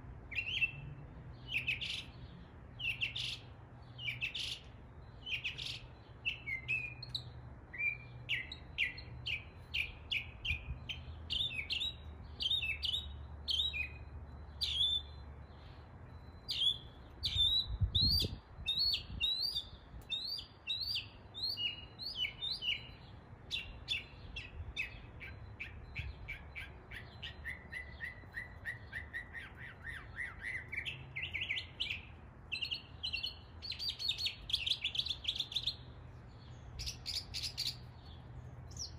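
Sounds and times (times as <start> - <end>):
mockingbird singing varied phrases: 0.2 - 38.9.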